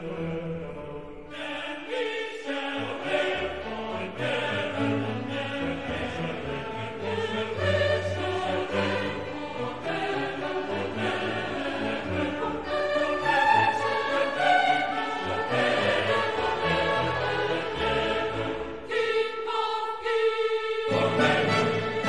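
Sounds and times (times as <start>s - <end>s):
choral singing: 0.0s - 22.0s.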